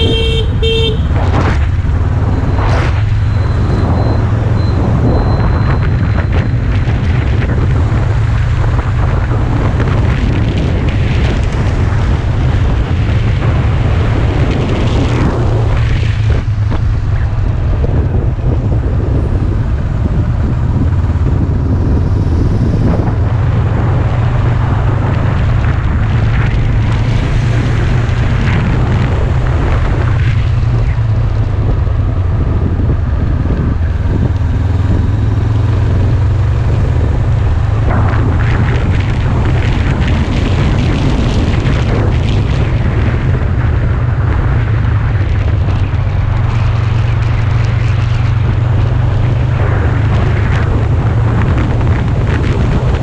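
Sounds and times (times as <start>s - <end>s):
motorcycle engine running: 0.0s - 53.0s
wind buffeting microphone: 0.0s - 53.0s.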